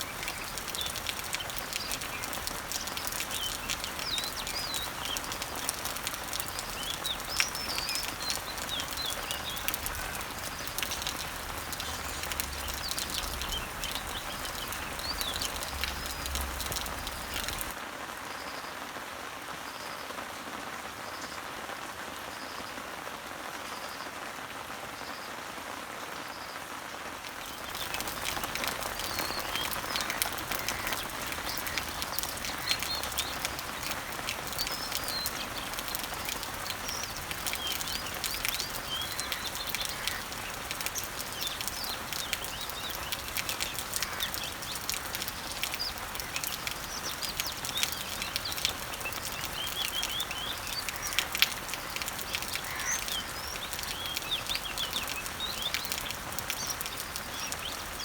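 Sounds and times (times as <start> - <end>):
birds chirping: 0.0 - 17.8, 27.3 - 58.0
sharp raindrop clicks: 0.0 - 17.8, 27.2 - 58.0
rain falling on leaves: 0.0 - 58.0.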